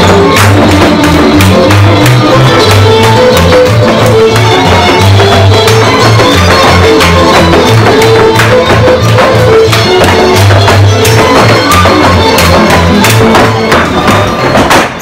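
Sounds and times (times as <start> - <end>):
folk dance music: 0.0 - 15.0
shoes knocking on wooden floor: 0.0 - 15.0.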